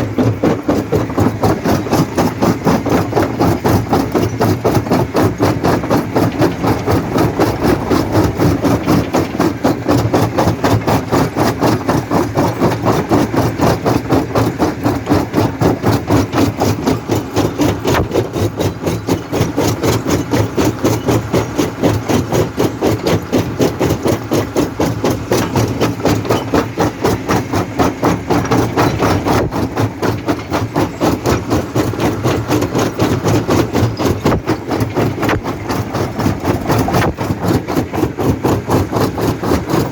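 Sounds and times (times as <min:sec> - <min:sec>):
jaw crusher knocking: 0:00.0 - 0:39.9
low machine hum: 0:00.0 - 0:39.9.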